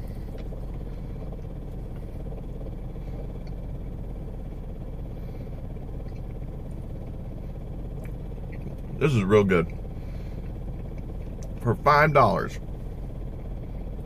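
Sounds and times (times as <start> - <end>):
car idling hum: 0.0 - 14.0.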